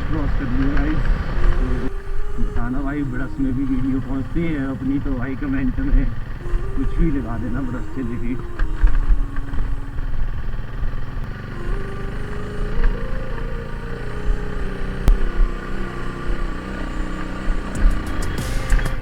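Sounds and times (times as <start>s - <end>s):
motorcycle engine running: 0.0s - 19.0s
wind rumbling on microphone: 0.0s - 19.0s.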